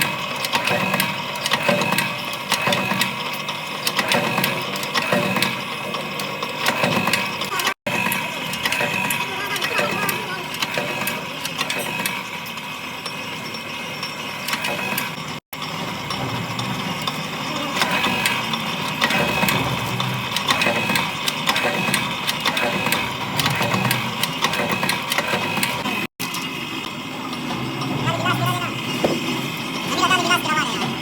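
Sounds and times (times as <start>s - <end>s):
rapid mechanical clatter: 0.0s - 31.0s.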